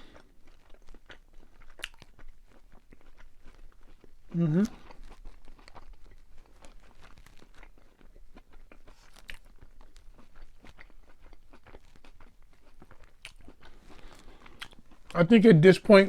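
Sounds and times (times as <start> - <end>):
chewing and crunching food: 0.0 - 15.6.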